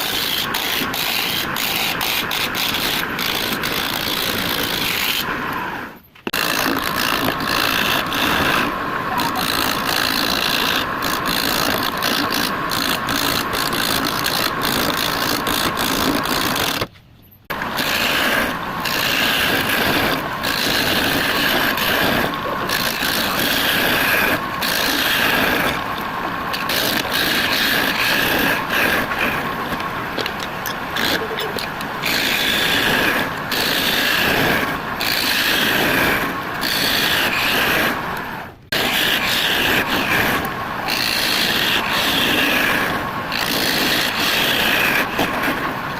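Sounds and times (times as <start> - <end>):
wood lathe tool scraping wood: 0.0 - 16.9, 17.5 - 45.9.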